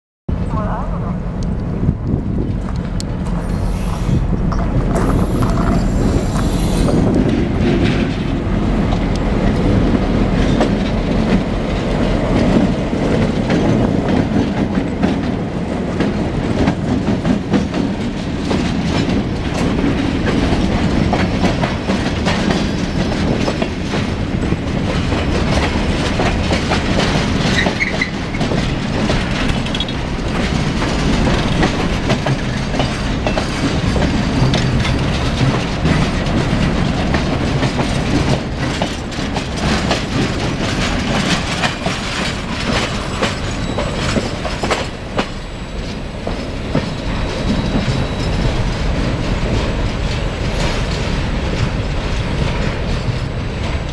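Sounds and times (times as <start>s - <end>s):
freight train wheels rumbling: 0.3s - 53.9s
wheels clacking on rail joints: 1.6s - 53.9s.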